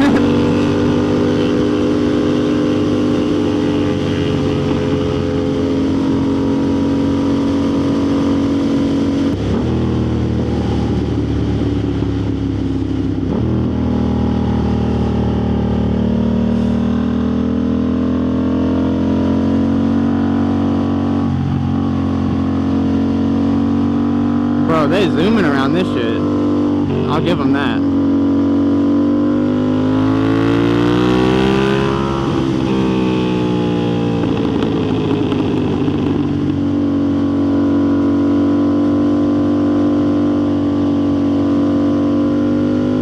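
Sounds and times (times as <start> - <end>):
motorcycle engine accelerating: 0.0 - 25.2, 27.8 - 43.0.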